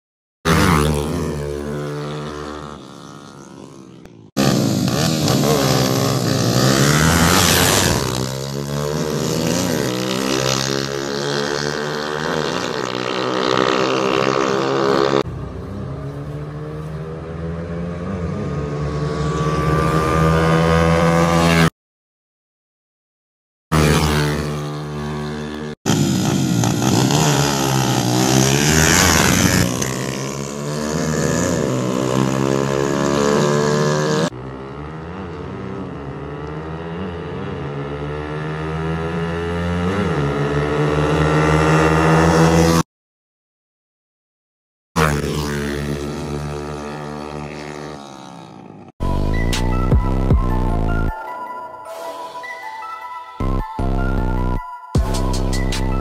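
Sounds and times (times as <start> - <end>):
motorcycle engines revving hard: 0.5 - 21.7, 23.7 - 42.8, 45.0 - 51.1.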